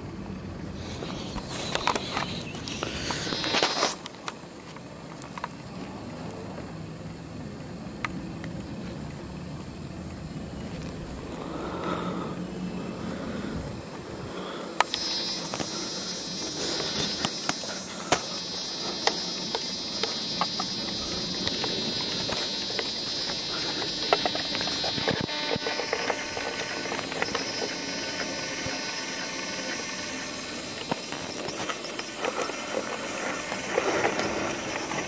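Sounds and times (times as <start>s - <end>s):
steady high whine: 0.0s - 35.0s.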